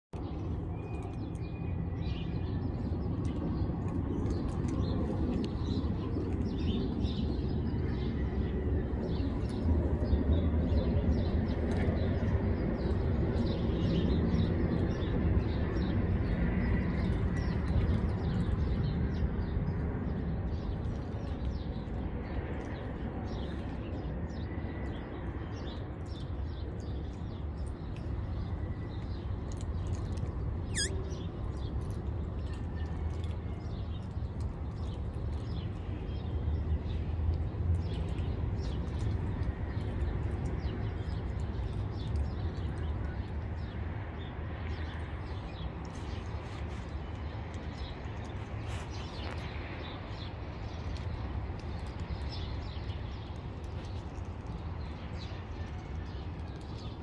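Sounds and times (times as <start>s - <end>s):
small birds chirping: 0.2s - 57.0s.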